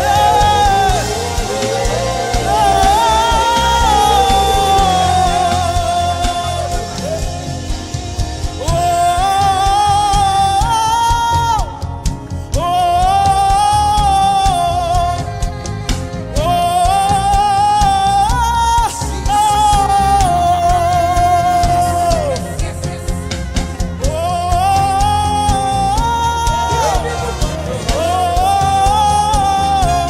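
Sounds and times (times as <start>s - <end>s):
band accompaniment with beat: 0.0s - 30.0s
person singing with vibrato: 0.0s - 30.0s.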